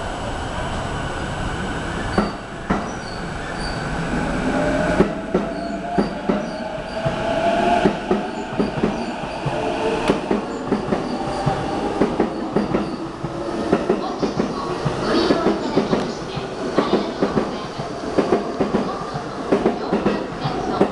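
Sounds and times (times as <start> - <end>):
electric train passing: 0.0 - 20.9.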